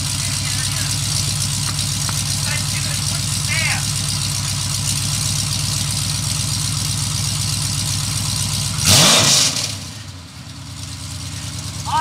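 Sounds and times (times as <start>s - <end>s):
car engine idling: 0.0s - 12.0s
engine revving: 0.0s - 12.0s.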